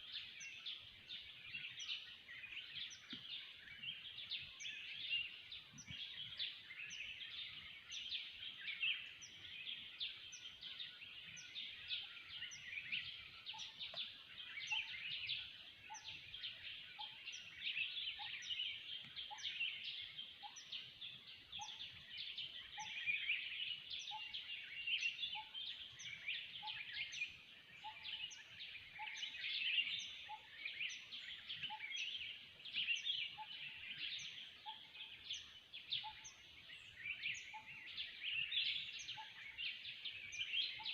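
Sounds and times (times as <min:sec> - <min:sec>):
forest birds chirping and whistling: 0:00.0 - 0:40.9.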